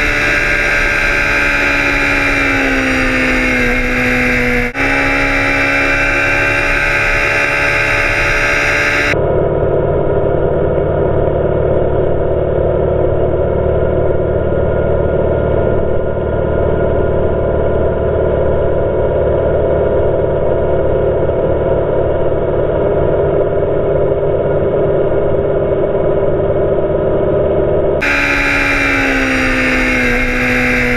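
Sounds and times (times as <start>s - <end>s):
motorcycle engine drone: 0.0s - 30.9s.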